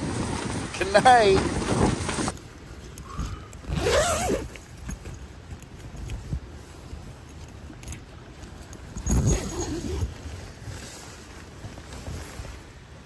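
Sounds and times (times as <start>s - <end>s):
tent fabric rustling: 0.0s - 13.0s.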